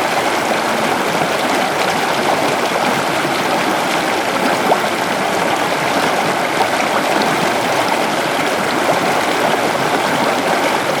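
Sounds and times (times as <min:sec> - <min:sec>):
waterfall pouring and splashing: 0:00.0 - 0:11.0.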